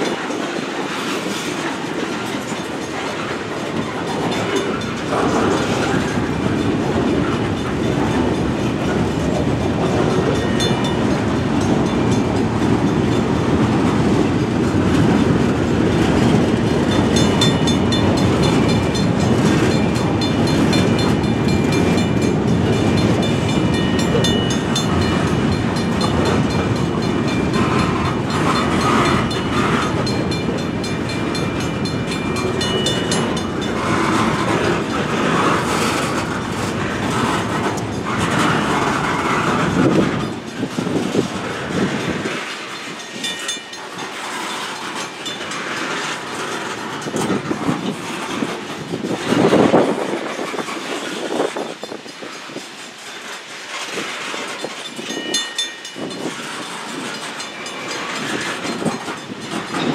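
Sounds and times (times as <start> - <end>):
freight train wheels clacking: 0.0 - 59.9.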